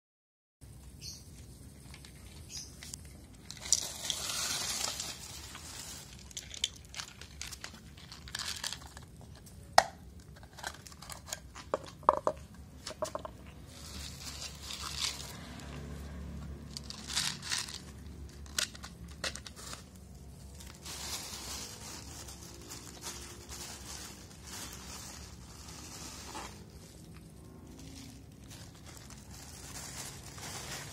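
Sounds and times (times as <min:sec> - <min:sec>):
plastic bag crinkling: 0:01.7 - 0:30.9
dry cat food shaken out: 0:01.8 - 0:09.4, 0:10.4 - 0:30.9.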